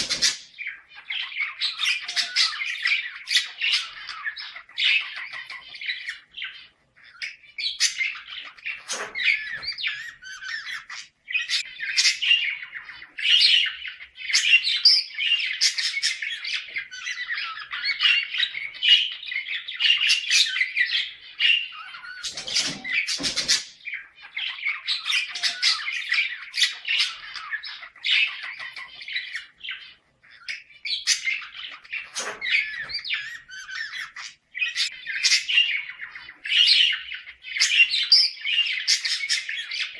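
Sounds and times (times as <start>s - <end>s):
budgerigars chattering and warbling: 0.0s - 39.9s
sharp squawks and chirps: 0.0s - 39.9s.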